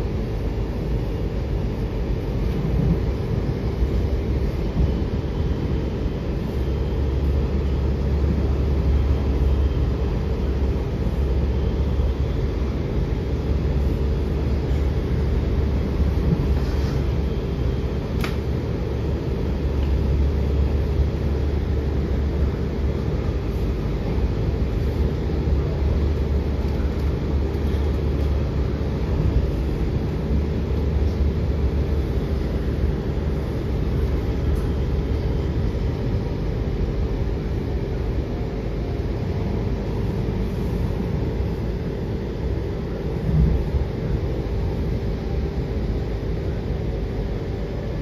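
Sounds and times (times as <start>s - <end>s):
faint constant hum: 0.0s - 48.0s
train car rumble: 0.0s - 48.0s.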